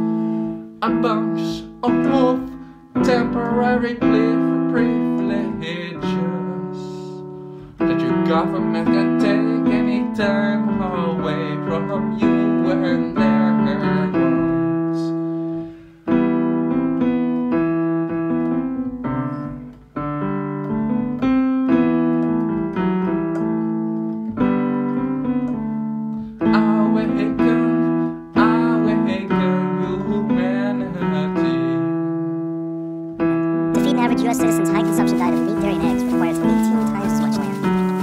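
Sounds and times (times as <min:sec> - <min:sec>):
slow piano chords: 0:00.0 - 0:38.0.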